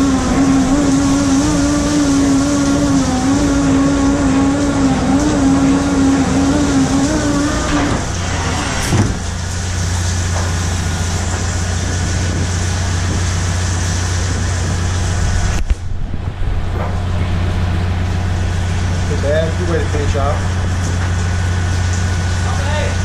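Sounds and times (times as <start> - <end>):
boat engine humming: 0.0 - 23.0
high whine: 0.0 - 23.0.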